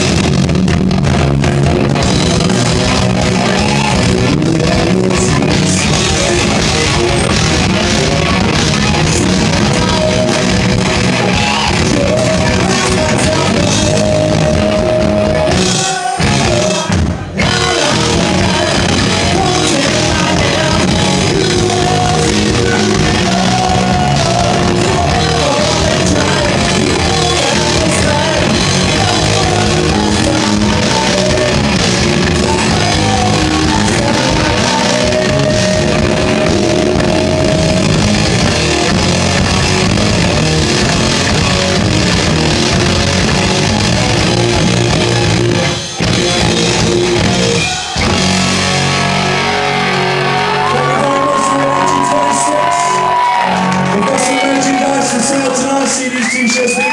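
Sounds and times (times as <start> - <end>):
heavy metal band playing live: 0.0 - 56.9
singer singing and shouting: 1.1 - 56.9.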